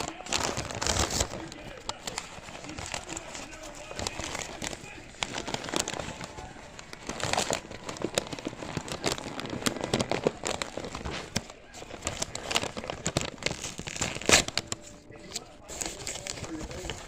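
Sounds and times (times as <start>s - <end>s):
food wrapping crinkling: 0.0s - 17.0s.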